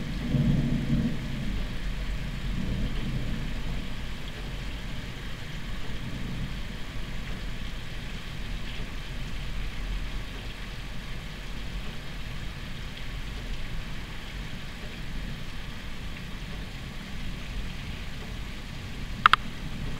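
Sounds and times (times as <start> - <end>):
low thunder rumble: 0.0 - 19.9
rain hiss: 0.0 - 19.9
wind: 0.0 - 19.9.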